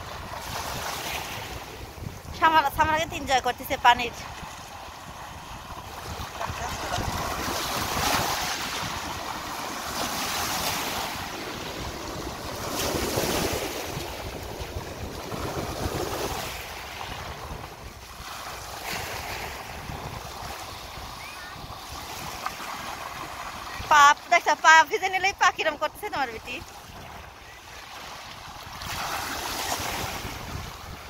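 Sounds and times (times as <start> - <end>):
wind rumbling on microphone: 0.0 - 24.1, 25.6 - 31.0
waves washing over shingle: 0.0 - 31.0.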